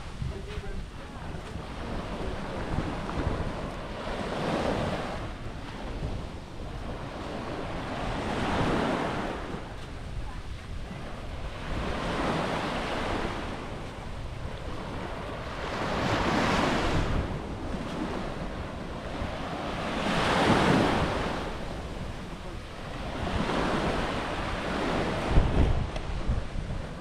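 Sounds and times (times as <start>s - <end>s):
small waves breaking on beach: 0.0s - 27.0s
wind rumbling on microphone: 0.0s - 27.0s.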